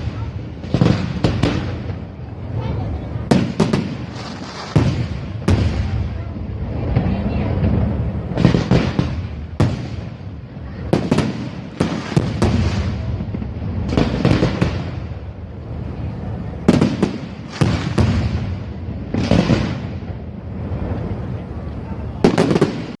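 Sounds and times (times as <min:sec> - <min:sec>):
continuous low rumble: 0:00.0 - 0:23.0
fireworks bangs: 0:00.0 - 0:23.0.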